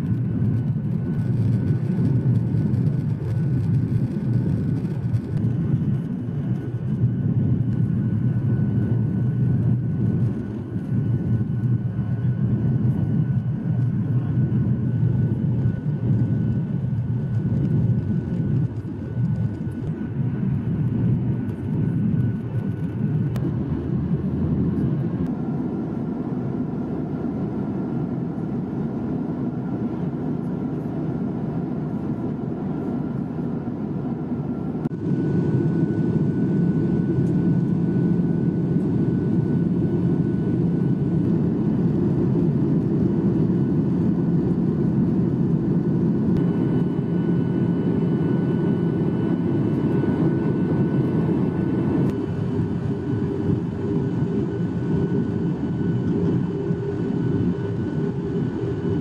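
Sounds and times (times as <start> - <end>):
faint steady whine: 0.0 - 59.0
jet engine rumble and airflow: 0.0 - 59.0.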